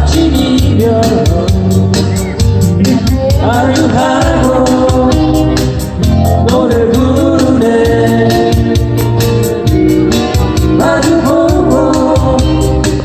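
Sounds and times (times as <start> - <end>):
person singing: 0.0 - 9.2, 10.3 - 13.0
drums with steady hi-hat: 0.0 - 13.0
electronic keyboard: 0.0 - 13.0.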